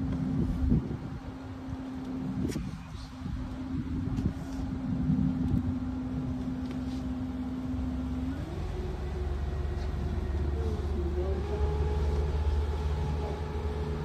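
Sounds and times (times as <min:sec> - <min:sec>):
boat motor hum: 0:00.0 - 0:14.0
deep rumble: 0:00.0 - 0:14.0.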